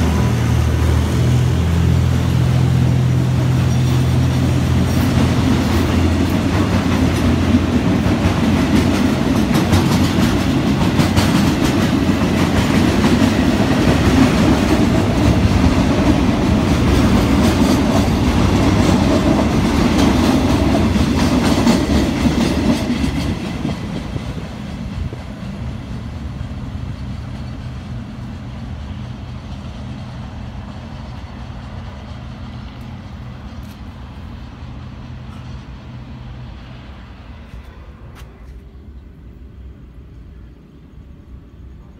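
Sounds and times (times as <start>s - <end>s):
freight train rolling past: 0.0s - 41.9s.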